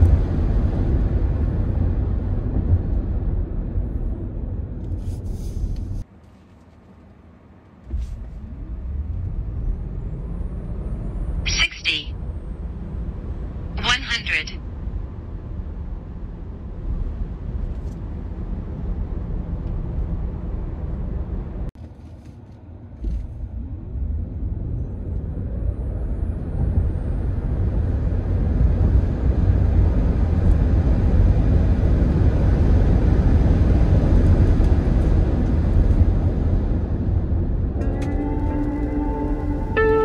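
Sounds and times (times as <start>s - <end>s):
road and tyre rumble: 0.0s - 40.0s.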